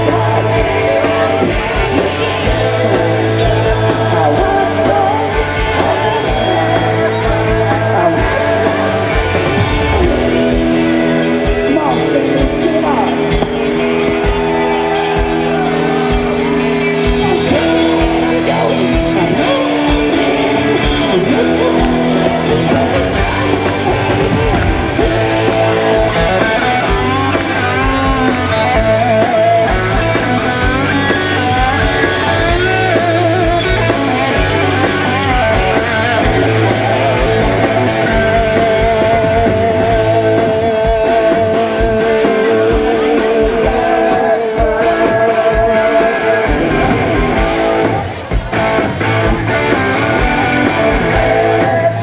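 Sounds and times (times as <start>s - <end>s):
person singing: 0.0s - 13.5s, 14.2s - 48.2s, 50.1s - 52.0s
hard rock band playing: 0.0s - 52.0s.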